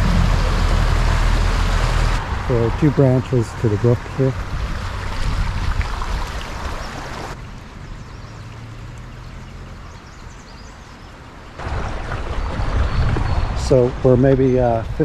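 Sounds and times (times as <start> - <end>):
brook water flowing: 0.0 - 15.0.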